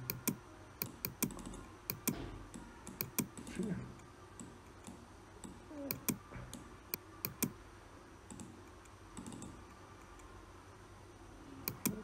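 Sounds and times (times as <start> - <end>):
computer mouse clicking: 0.0 - 7.6, 8.3 - 10.3, 11.6 - 12.0.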